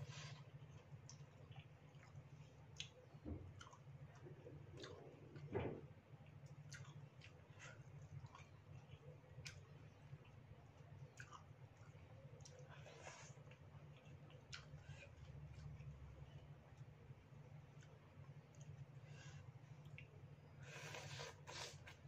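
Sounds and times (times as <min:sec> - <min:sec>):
steady low hum: 0:00.0 - 0:22.0
wet chewing and smacking: 0:00.2 - 0:19.0, 0:19.6 - 0:20.4.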